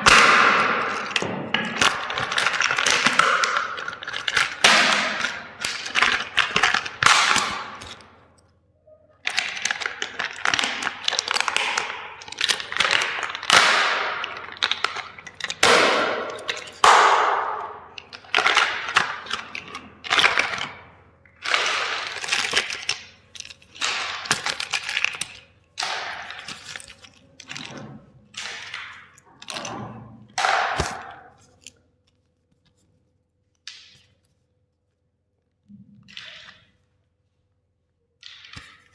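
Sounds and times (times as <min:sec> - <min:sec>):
plastic toys cracking and snapping: 0:00.0 - 0:08.3, 0:09.2 - 0:31.9, 0:38.2 - 0:38.9.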